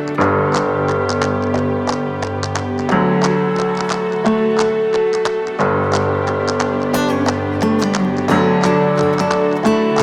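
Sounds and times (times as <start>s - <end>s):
guitar instrumental with beat: 0.0s - 10.0s.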